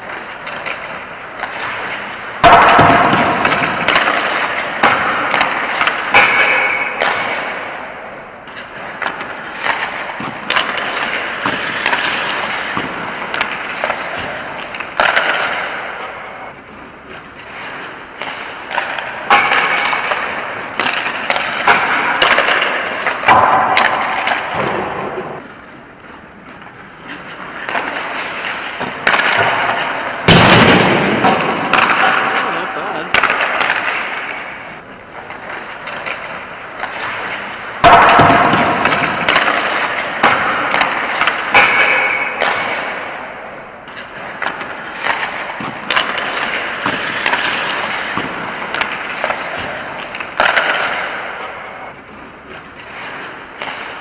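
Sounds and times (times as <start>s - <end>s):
hockey sticks striking pucks: 0.0s - 54.0s
pucks hitting net and boards: 0.0s - 54.0s
skates scraping ice: 0.0s - 54.0s.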